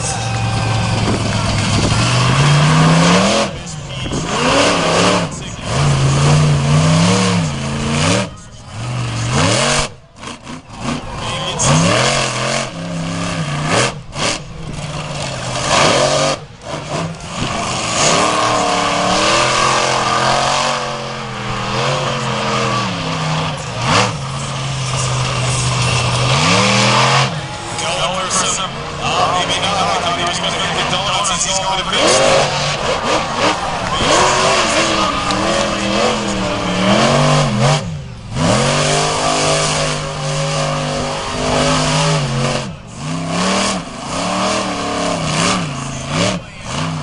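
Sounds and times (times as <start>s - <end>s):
truck engines revving: 0.0s - 47.0s.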